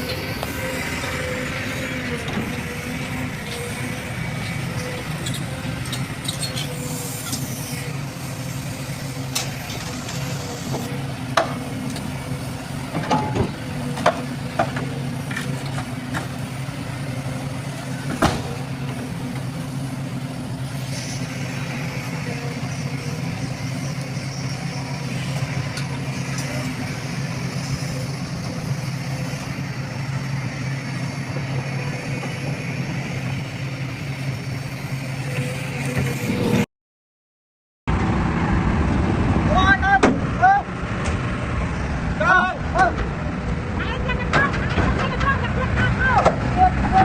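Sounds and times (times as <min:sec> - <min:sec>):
heavy machine engine running: 0:00.0 - 0:36.7, 0:37.9 - 0:47.0.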